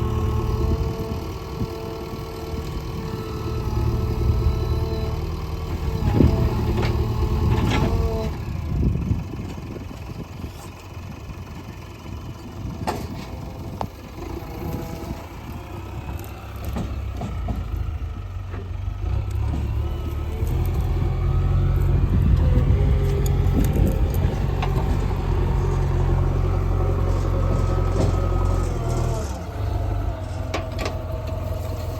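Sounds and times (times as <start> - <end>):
backhoe diesel engine running: 0.0 - 31.9.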